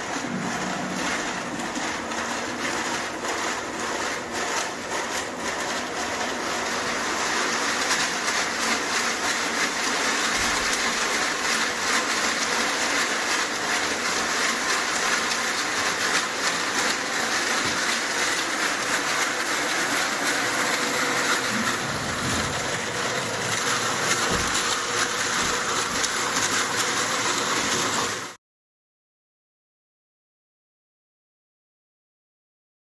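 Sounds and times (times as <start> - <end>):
crushed ice grinding and rattling: 0.0 - 28.4.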